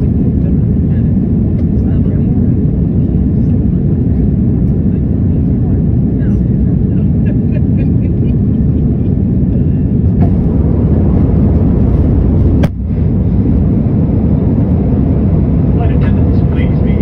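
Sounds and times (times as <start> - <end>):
airliner cabin roar: 0.0 - 17.0.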